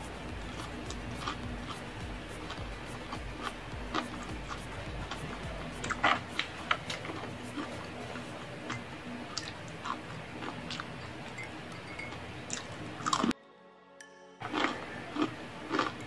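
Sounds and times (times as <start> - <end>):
chewing crispy snack food: 0.0 - 13.3, 14.4 - 16.0.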